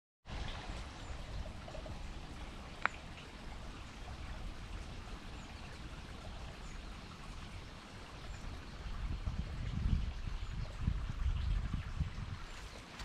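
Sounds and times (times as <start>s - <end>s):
low outdoor rumble: 0.3s - 13.0s.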